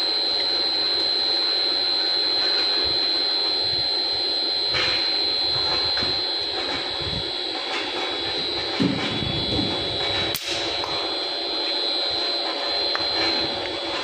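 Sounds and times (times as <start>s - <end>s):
machine with high-pitched whine: 0.0s - 14.0s.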